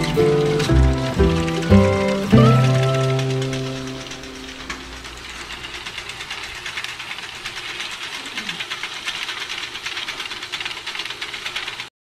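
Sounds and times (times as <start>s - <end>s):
elevator chain rattling: 0.0s - 11.9s.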